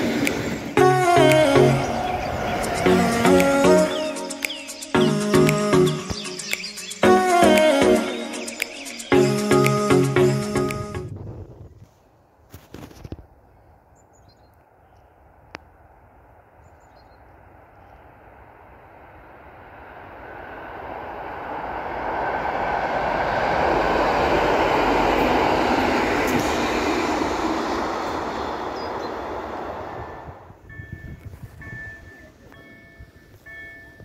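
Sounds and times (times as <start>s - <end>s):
passenger train passing: 0.0s - 11.4s, 17.7s - 34.0s.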